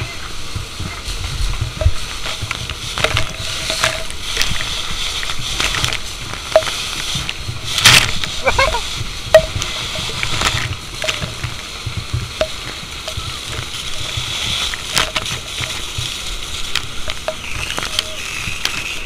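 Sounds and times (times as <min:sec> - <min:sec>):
sharp ticks and cracks: 0:00.0 - 0:19.0
water jet spraying and sizzling: 0:00.0 - 0:19.0.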